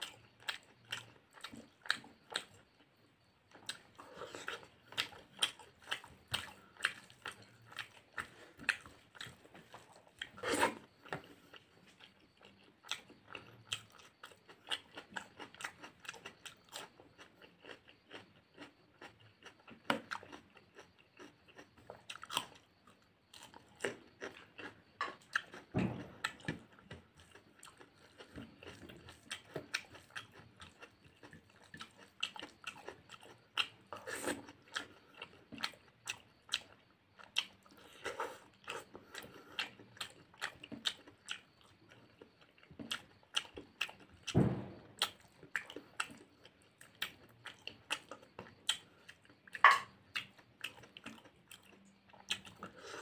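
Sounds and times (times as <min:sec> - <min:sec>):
man chewing and lip smacking: 0:00.0 - 0:53.0.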